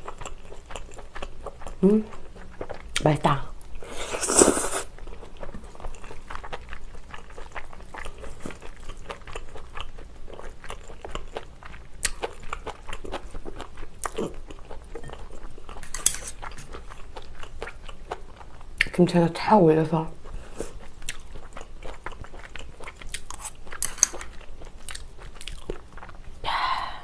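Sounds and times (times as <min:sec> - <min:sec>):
person chewing wetly: 0:00.0 - 0:03.0, 0:04.2 - 0:18.9, 0:20.2 - 0:26.3.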